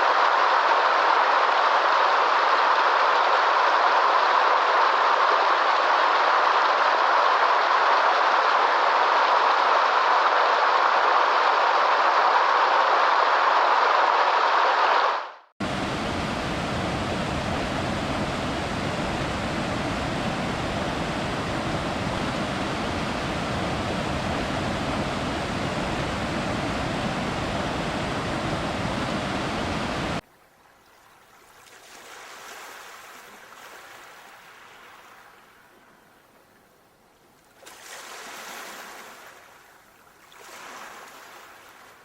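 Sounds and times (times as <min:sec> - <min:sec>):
small wave washing in: 0:00.0 - 0:30.2, 0:30.9 - 0:35.8, 0:37.5 - 0:42.0
rushing water: 0:00.0 - 0:42.0.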